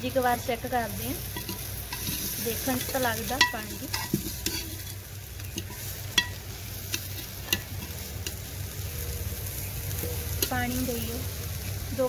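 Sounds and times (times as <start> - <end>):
low frying hiss: 0.0 - 12.0.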